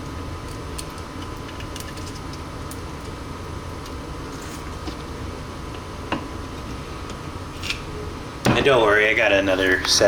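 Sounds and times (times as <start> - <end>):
low machine hum with tones: 0.0 - 10.0.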